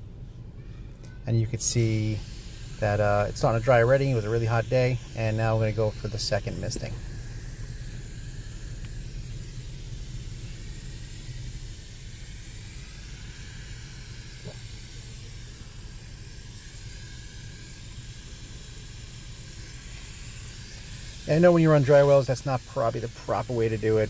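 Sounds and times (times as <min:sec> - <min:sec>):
hose nozzle mist hissing: 0:01.7 - 0:16.8, 0:17.4 - 0:24.0.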